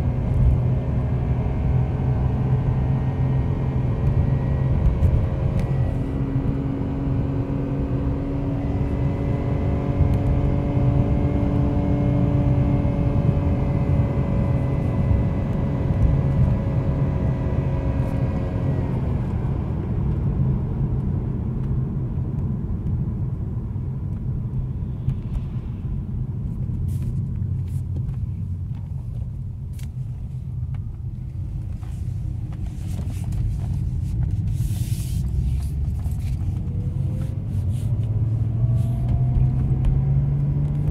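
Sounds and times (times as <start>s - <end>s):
car engine at high revs: 0.0s - 40.9s
road noise: 0.0s - 40.9s.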